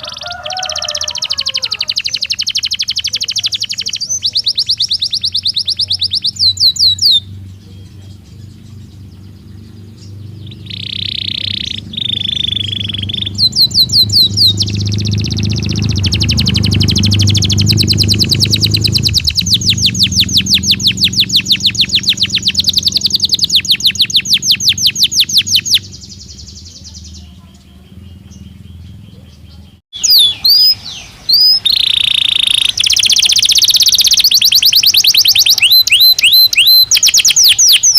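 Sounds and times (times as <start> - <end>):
canary singing trills: 0.0 - 37.9.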